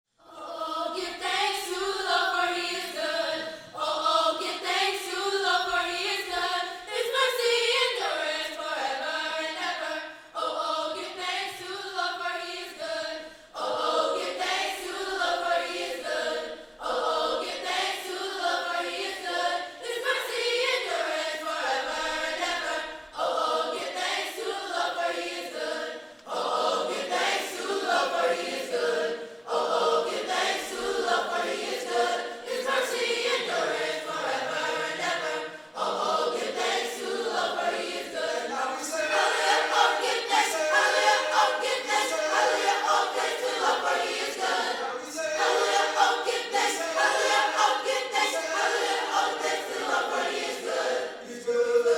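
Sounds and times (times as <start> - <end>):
church choir singing: 0.2 - 51.9.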